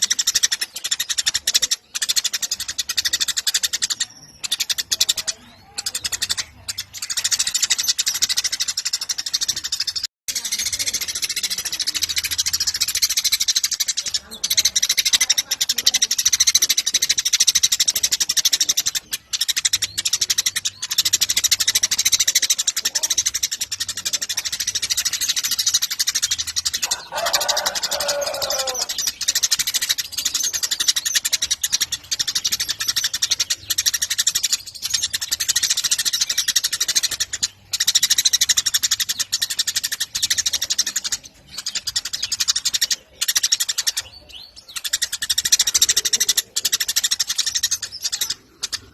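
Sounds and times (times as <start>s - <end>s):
sparrow chirping: 0.0s - 48.9s.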